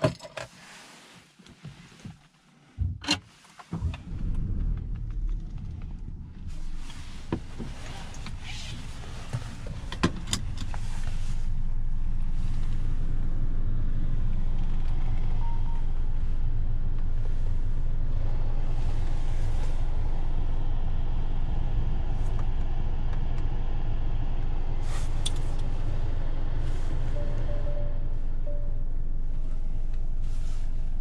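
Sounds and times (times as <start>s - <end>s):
car engine idling: 3.7s - 31.0s.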